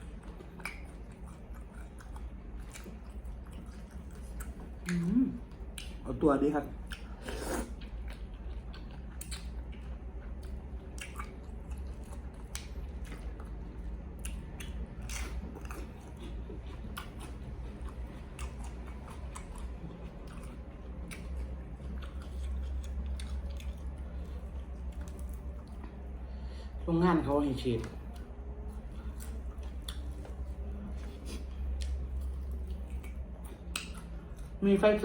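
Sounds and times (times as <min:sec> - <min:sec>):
person chewing food: 0:00.0 - 0:06.0, 0:06.6 - 0:26.8, 0:27.8 - 0:34.6
low steady hum: 0:00.0 - 0:35.0.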